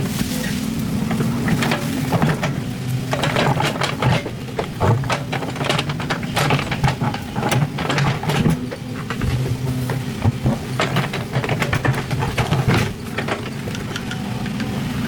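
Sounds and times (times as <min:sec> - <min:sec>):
diesel engine running under load: 0:00.0 - 0:15.0
metallic clanks and knocks: 0:01.0 - 0:15.0.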